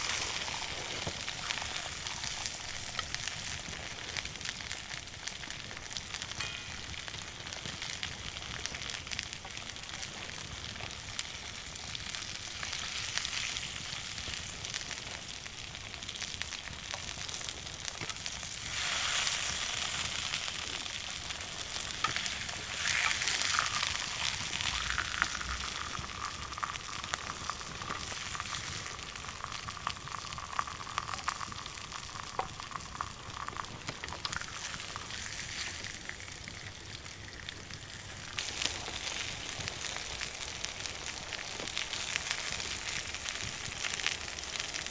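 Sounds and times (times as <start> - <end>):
fire crackles: 0.0 - 44.9
steak sizzling over fire: 0.0 - 44.9.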